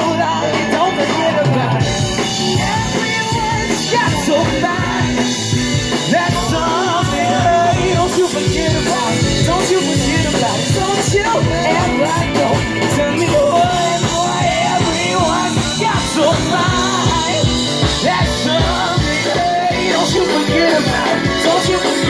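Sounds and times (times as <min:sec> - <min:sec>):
lead vocals: 0:00.0 - 0:22.0
live band playing: 0:00.0 - 0:22.0.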